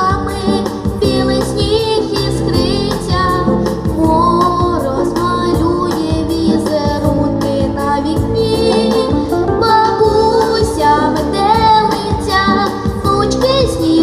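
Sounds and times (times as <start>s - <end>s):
backing track with steady beat: 0.0s - 14.0s
woman singing: 0.0s - 14.0s.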